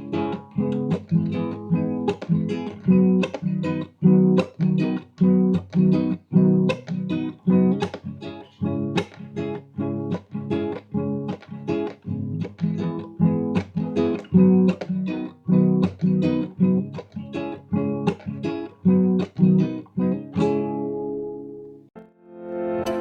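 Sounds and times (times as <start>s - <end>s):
acoustic guitar strumming: 0.0s - 21.9s
plucked guitar tune: 0.0s - 23.0s.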